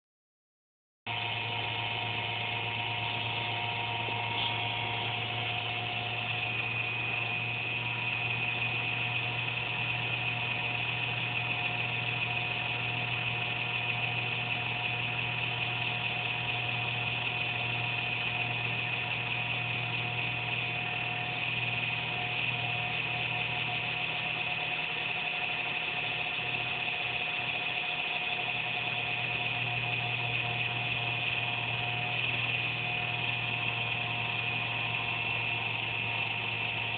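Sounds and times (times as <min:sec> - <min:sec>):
computer electric buzz: 0:01.1 - 0:36.9
high whining tones: 0:01.1 - 0:36.9.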